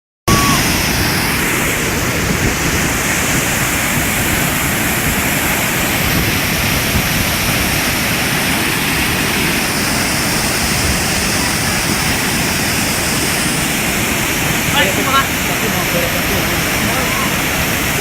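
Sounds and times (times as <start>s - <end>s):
waterfall rushing: 0.3s - 18.0s.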